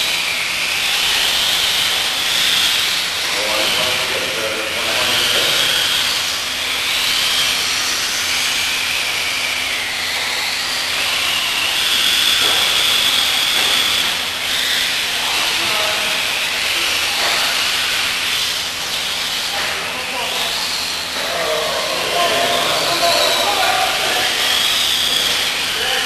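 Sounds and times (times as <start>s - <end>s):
rc buggy motors whining: 0.0s - 26.0s.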